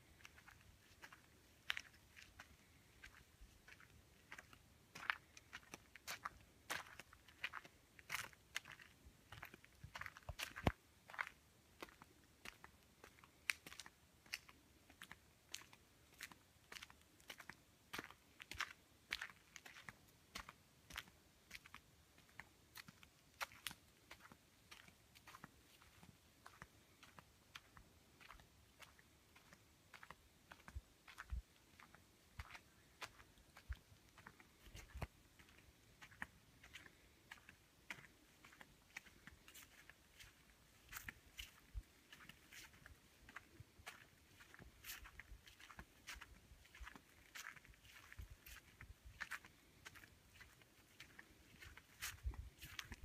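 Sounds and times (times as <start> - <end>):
footsteps crunching on dirt path: 0.0 - 53.0.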